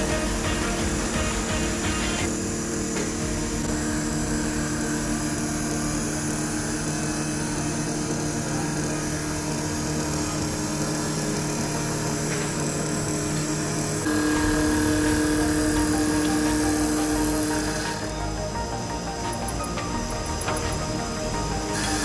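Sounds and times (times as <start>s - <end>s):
wood lathe machine hum: 0.0s - 22.0s.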